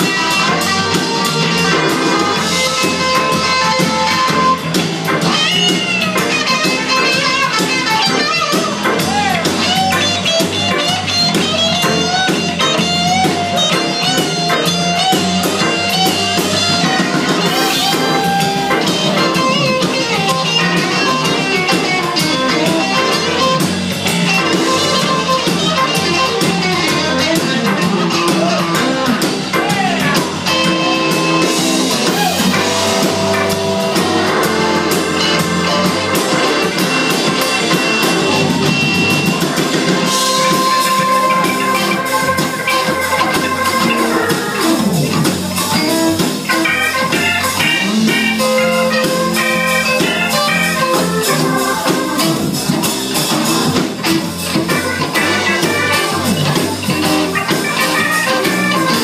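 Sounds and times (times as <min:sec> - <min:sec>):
electric guitar bent notes: 0:00.0 - 0:59.0
live band playing: 0:00.0 - 0:59.0.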